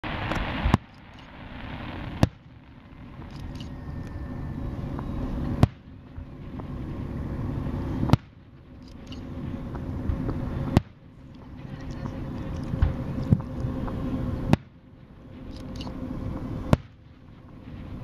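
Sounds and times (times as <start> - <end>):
fireworks booming: 0.0 - 18.0
low rumbling background: 0.0 - 18.0.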